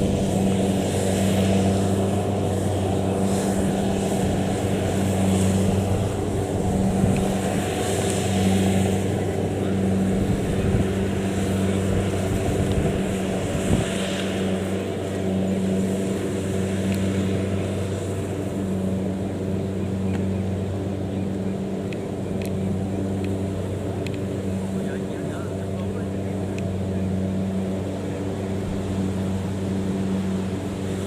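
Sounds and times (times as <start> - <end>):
combine harvester diesel engine hum: 0.0 - 31.0.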